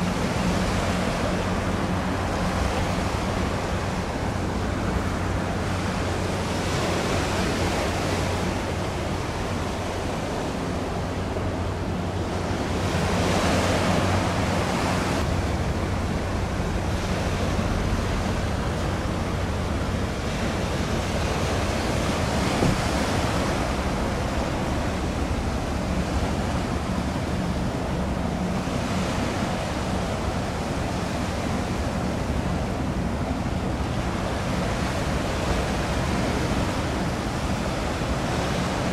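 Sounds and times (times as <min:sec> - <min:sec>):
waves washing on shore: 0:00.0 - 0:38.9.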